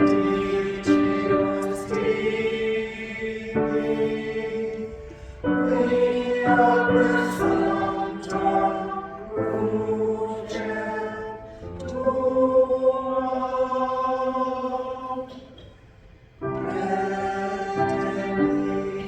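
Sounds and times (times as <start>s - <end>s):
choir singing a hymn: 0.0s - 15.7s, 16.4s - 19.0s.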